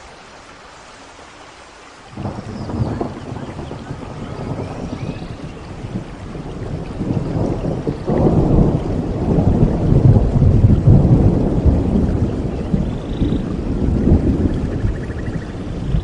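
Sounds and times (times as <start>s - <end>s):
rain falling in a forest: 0.0s - 16.0s
thunder rolling: 2.2s - 16.0s.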